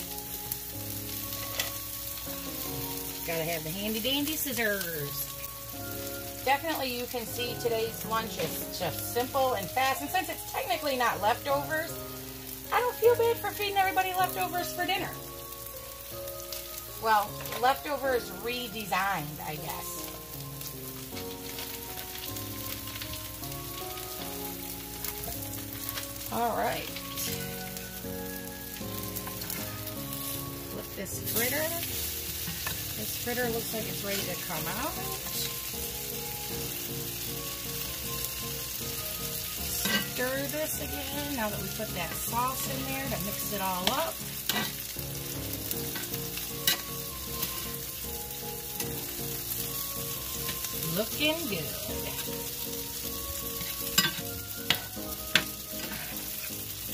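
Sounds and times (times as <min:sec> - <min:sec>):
background music of held notes: 0:00.0 - 0:56.9
fritters sizzling in skillets: 0:00.0 - 0:56.9.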